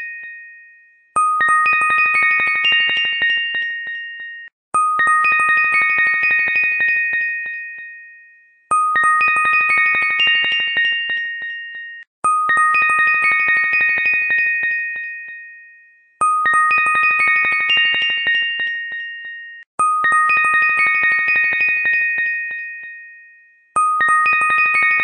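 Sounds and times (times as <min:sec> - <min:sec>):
bell-like chime jingle: 0:00.0 - 0:25.0.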